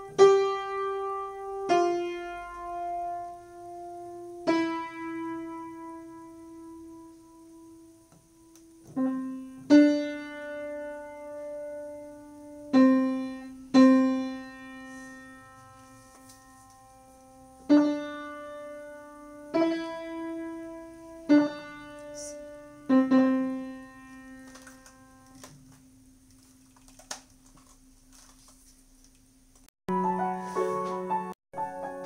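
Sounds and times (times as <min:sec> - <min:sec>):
piano notes: 0:00.0 - 0:27.1, 0:29.9 - 0:32.0.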